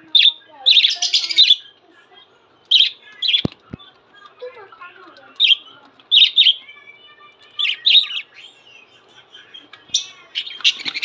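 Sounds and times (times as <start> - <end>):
parrots chirping: 0.0 - 1.8, 2.6 - 3.6, 4.2 - 11.0.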